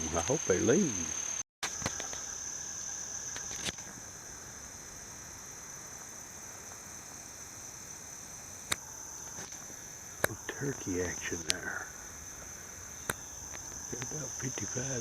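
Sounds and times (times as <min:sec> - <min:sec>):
crickets droning: 0:00.0 - 0:15.0.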